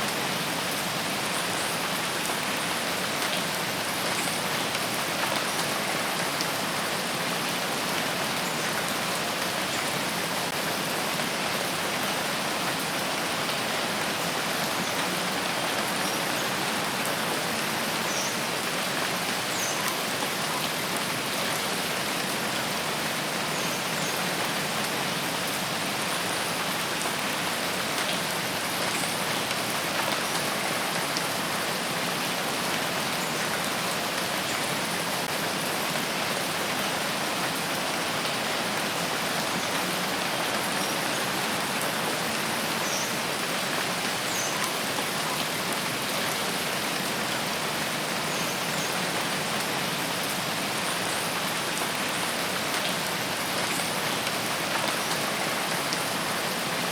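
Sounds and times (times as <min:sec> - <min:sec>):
rain on foliage: 0:00.0 - 0:56.9.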